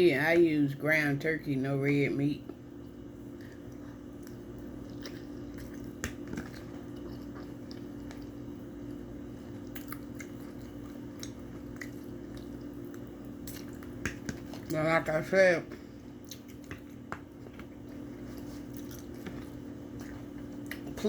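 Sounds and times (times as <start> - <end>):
steady low hum: 0.0 - 21.0
chewing food close-up: 2.5 - 14.8, 15.7 - 21.0.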